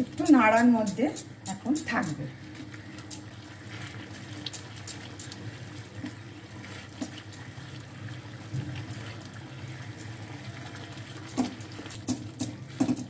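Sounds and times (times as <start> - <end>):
halwa bubbling and sizzling in a wok: 0.0 - 13.0
spatula stirring in a wok: 0.0 - 13.0.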